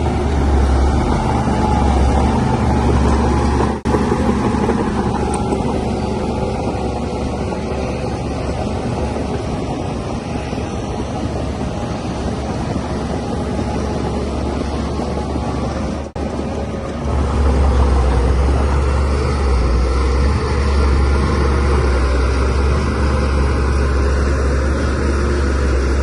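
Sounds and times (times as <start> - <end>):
bulldozer diesel engine drone: 0.0 - 26.0.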